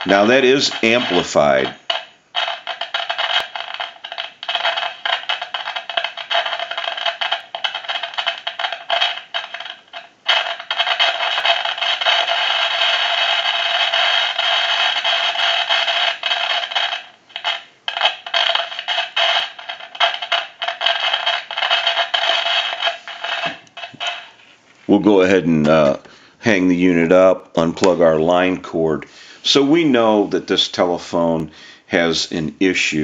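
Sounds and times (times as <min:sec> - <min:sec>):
telephone line crackling static: 0:00.0 - 0:31.5.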